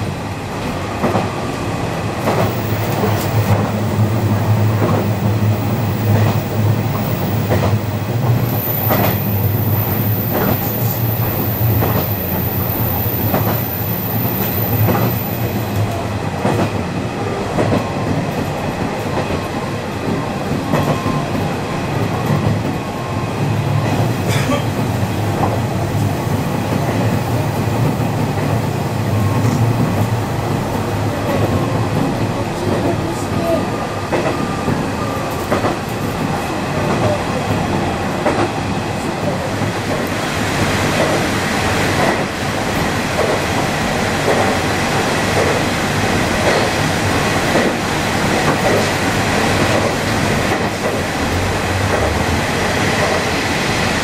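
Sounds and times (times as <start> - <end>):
train engine and wheels droning: 0.0 - 54.0.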